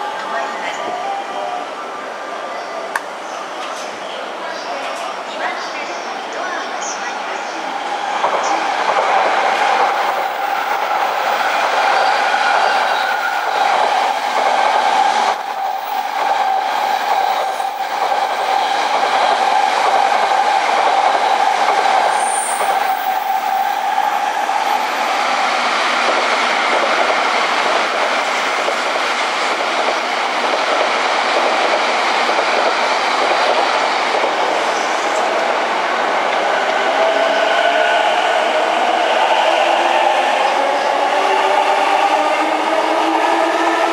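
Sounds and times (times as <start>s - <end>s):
train wheels rumbling on rail: 2.9s - 43.9s.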